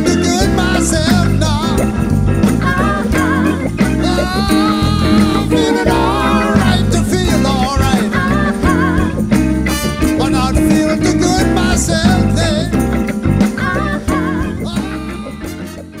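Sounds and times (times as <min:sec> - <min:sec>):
band music with singer: 0:00.0 - 0:16.0.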